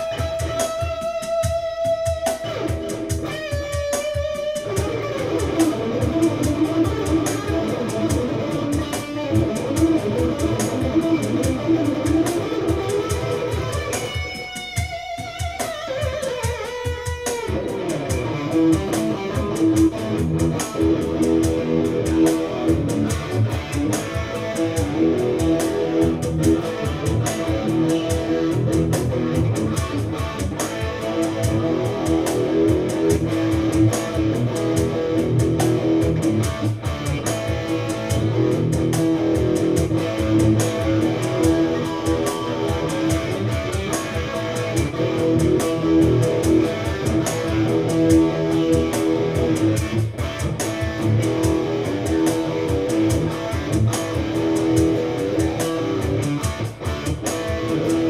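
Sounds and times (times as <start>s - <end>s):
electric guitar jam: 0.0s - 58.0s.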